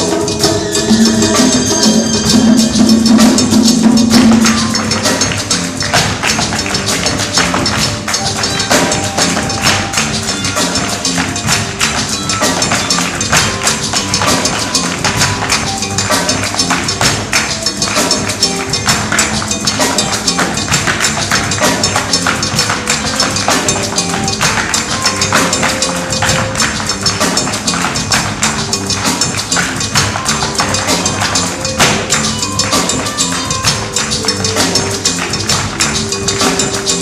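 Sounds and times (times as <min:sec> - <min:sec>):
instrumental music: 0:00.0 - 0:37.0.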